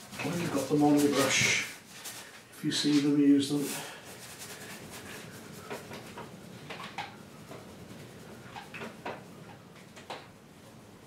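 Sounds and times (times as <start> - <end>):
paintbrush strokes on canvas: 0.0 - 9.0.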